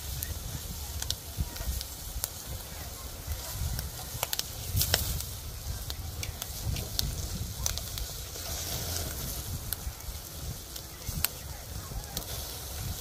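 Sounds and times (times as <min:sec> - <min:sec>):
crackles and pops: 0:00.0 - 0:13.0
meat sizzling over charcoal: 0:00.0 - 0:13.0.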